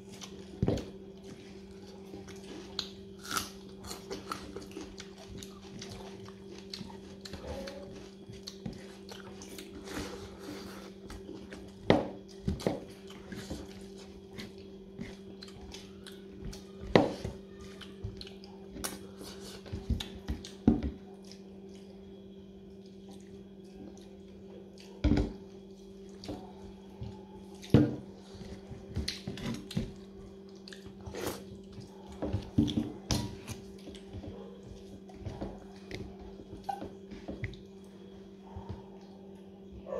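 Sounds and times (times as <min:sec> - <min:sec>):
chewing: 0:00.0 - 0:39.9
steady low hum: 0:00.0 - 0:39.9.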